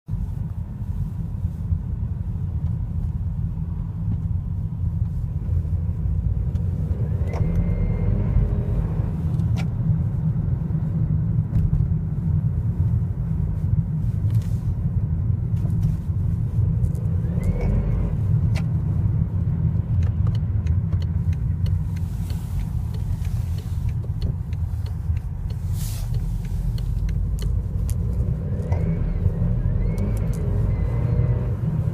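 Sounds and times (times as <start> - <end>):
car engine rumbling: 0.0 - 31.9.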